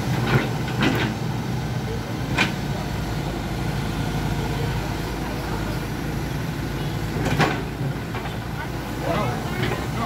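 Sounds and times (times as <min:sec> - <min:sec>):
heavy diesel engine running: 0:00.0 - 0:10.0.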